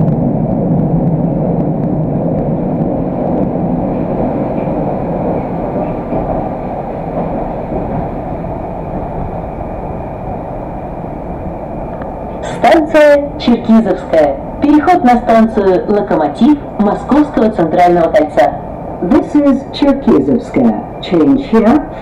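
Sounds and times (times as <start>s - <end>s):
metro train rumbling: 0.0s - 22.0s.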